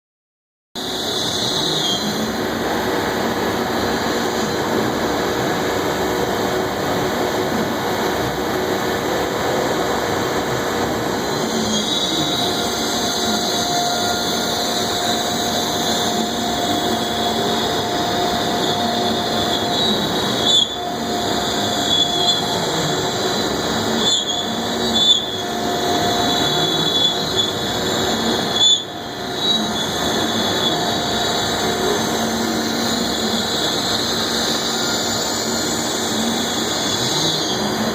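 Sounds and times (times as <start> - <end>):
high whine: 0.8 - 37.9
router machine humming: 2.2 - 37.9.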